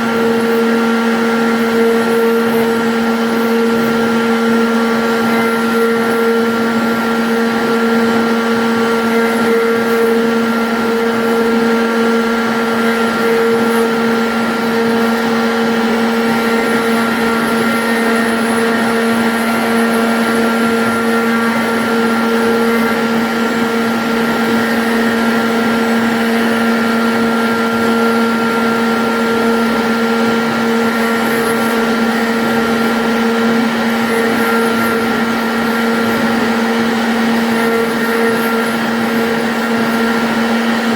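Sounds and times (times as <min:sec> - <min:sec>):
router spindle whine: 0:00.0 - 0:40.9.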